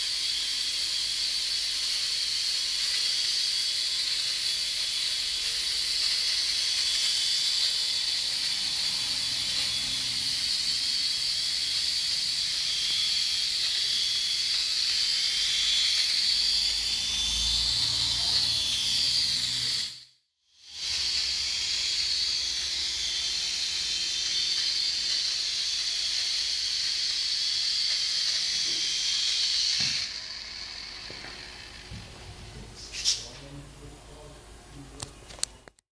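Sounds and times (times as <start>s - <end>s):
small helicopter rotors whining: 0.0s - 35.7s.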